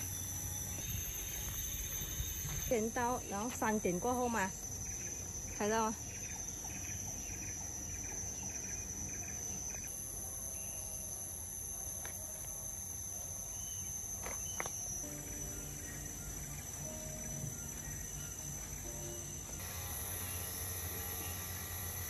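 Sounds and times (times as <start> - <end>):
forest insects droning: 0.0 - 22.0.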